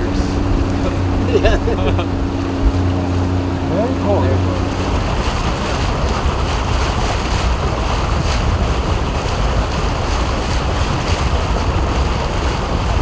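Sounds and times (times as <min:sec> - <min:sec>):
low rumble: 0:00.0 - 0:13.0
wind and water rushing: 0:00.0 - 0:13.0
wind buffeting microphone: 0:00.0 - 0:13.0.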